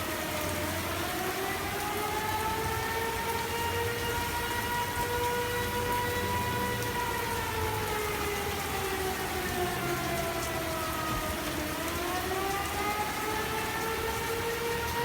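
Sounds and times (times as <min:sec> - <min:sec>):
steady rain: 0:00.0 - 0:15.0
warning siren wailing: 0:00.0 - 0:15.0.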